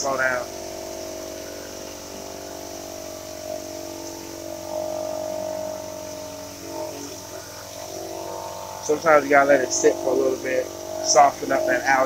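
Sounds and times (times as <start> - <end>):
pressure washer engine droning: 0.0 - 12.0
water spray hissing: 0.0 - 12.0.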